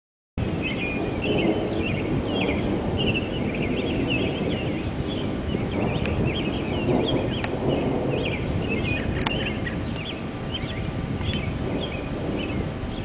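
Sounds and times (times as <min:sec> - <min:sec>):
birds chirping: 0:00.4 - 0:13.0
wind buffeting microphone: 0:00.4 - 0:13.0.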